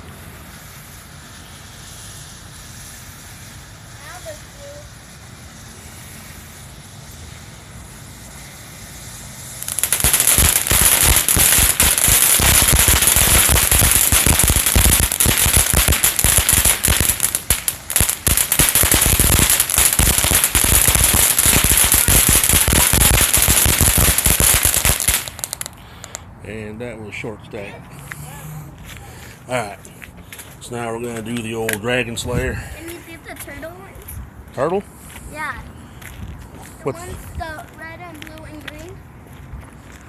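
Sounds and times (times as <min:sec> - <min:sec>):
firework fountain hissing and crackling: 0:00.0 - 0:26.3, 0:29.0 - 0:34.1, 0:34.8 - 0:39.0.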